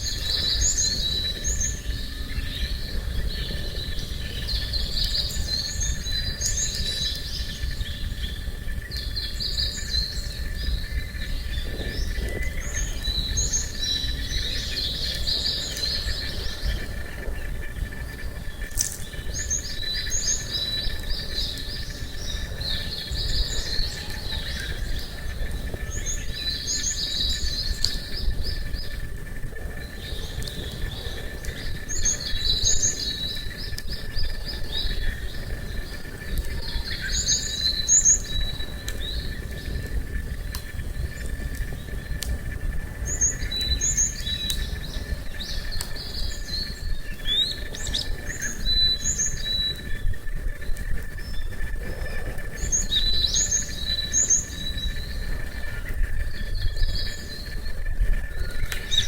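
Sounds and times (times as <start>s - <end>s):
high insect drone: 0.0s - 59.0s
low outdoor background noise: 0.0s - 59.0s
small birds chirping: 0.0s - 59.0s.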